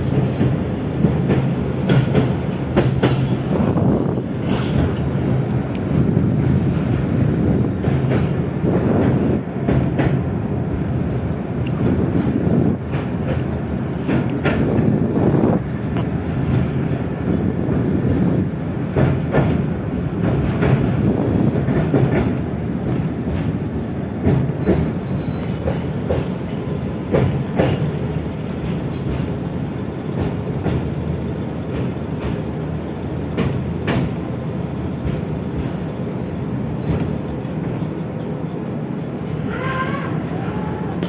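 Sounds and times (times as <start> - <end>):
tram wheels rumbling on rails: 0.0 - 41.0.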